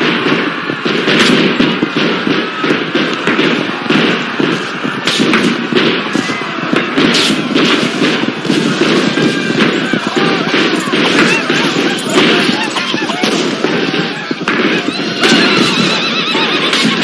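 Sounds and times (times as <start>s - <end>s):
dense continuous battle din: 0.0s - 17.0s
gunshots: 0.0s - 17.0s.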